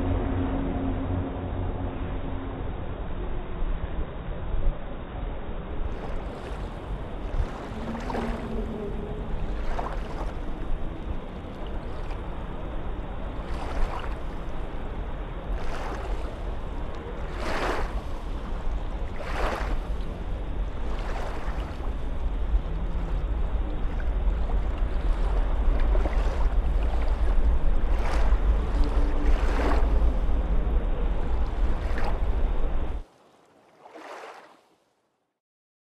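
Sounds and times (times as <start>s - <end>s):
wind rumble on microphone: 0.0s - 33.1s
small waves lapping and splashing: 5.7s - 35.0s.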